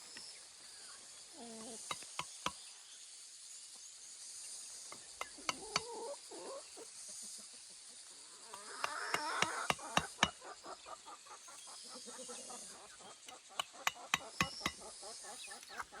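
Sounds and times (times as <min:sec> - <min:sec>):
high insect hiss: 0:00.0 - 0:16.0.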